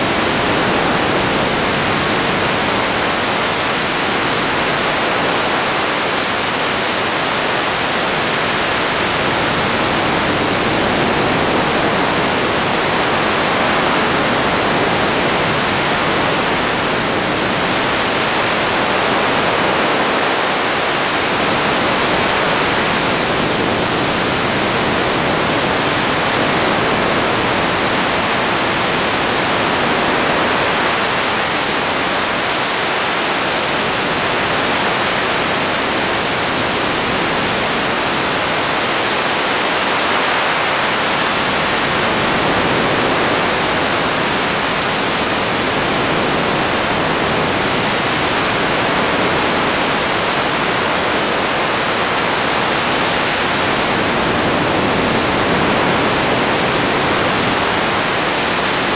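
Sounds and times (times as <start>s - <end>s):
radio static hiss: 0.0s - 58.9s.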